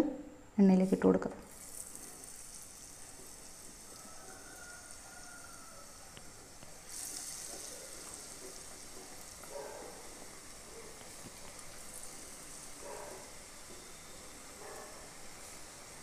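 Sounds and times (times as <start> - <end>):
hot oil sizzling: 0.9 - 16.0.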